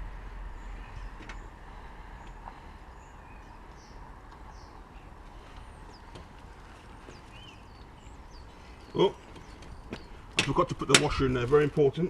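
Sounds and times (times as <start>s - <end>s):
birds chirping: 0.0s - 12.0s
low outdoor background hum: 0.0s - 12.0s.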